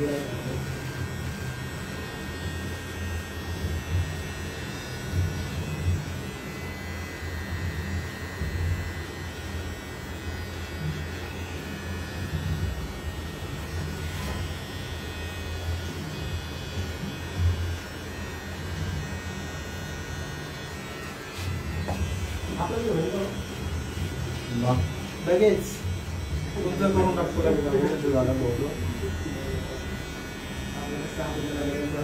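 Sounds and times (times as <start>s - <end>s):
electric hair clipper buzzing: 0.0s - 32.0s.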